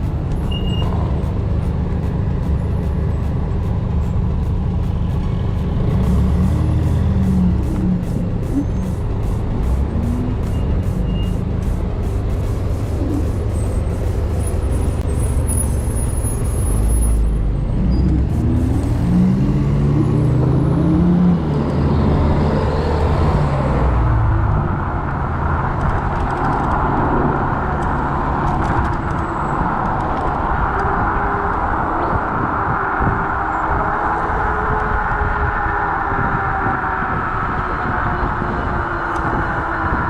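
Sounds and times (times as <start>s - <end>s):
road noise rushing: 0.0s - 40.0s
vehicle engines changing speed: 0.0s - 40.0s.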